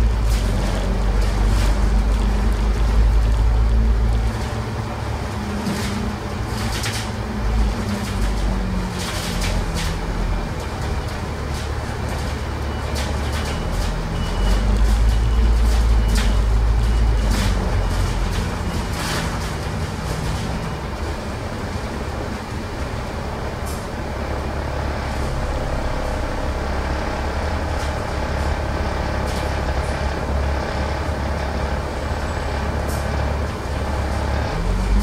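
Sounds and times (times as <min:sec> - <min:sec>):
bus diesel engine rumble: 0:00.0 - 0:35.0
road noise: 0:00.0 - 0:35.0.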